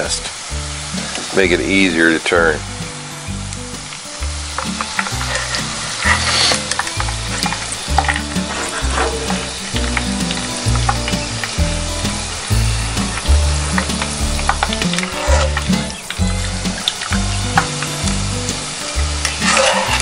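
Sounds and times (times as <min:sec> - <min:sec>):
low background music: 0:00.0 - 0:20.0
potatoes sizzling in oil: 0:00.0 - 0:20.0.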